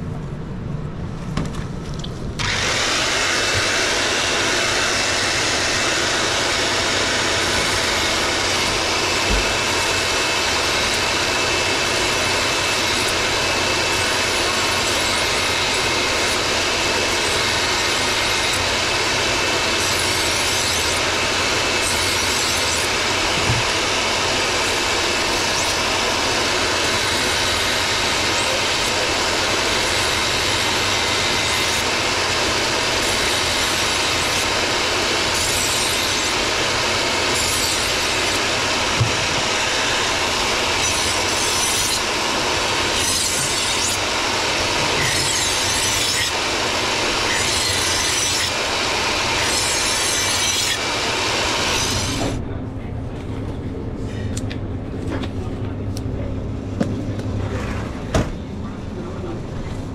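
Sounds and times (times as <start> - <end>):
kitchen equipment roar: 0.0 - 59.9.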